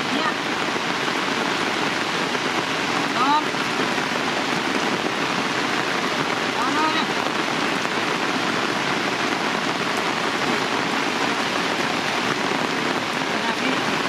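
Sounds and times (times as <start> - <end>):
heavy rain on ground and umbrellas: 0.0 - 14.0.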